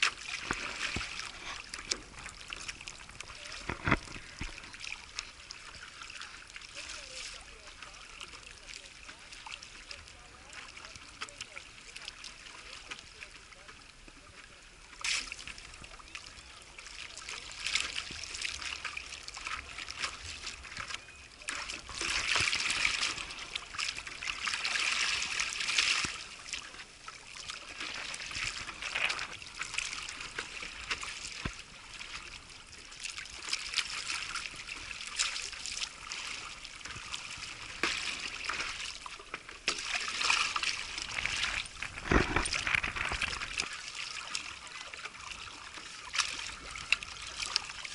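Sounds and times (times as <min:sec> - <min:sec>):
water splashing against paddleboard: 0:00.0 - 0:47.9.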